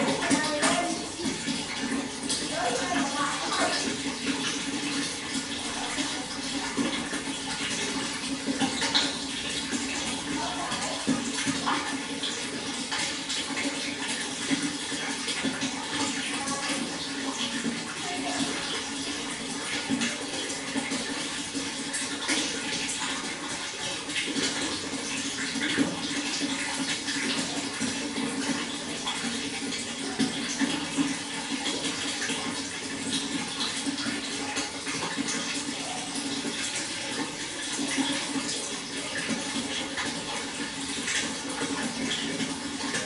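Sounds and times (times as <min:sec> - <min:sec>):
water flowing and splashing: 0:00.0 - 0:43.0.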